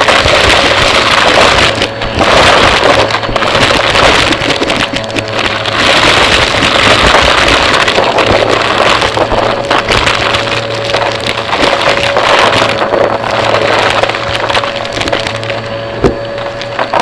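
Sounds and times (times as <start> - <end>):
debris crackling and rattling: 0.0 - 17.0
vacuum cleaner running: 0.0 - 17.0.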